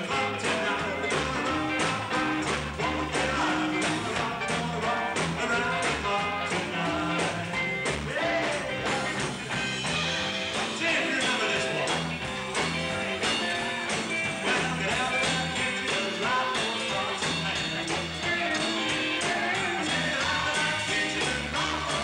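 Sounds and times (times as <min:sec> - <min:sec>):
rock and roll band playing: 0:00.0 - 0:22.0.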